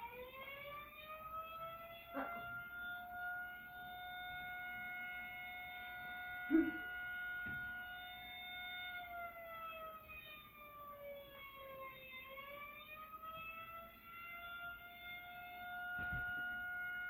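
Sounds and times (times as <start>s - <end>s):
warning siren: 0.0s - 17.0s.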